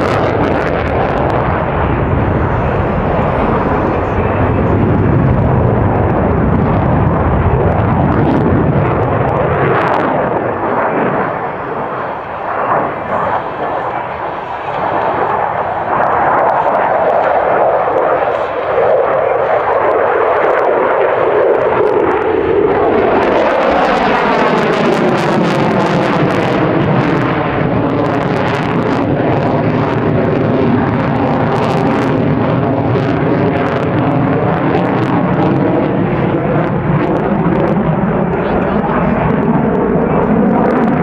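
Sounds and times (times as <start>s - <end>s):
jet engine noise passing: 0.0s - 41.0s.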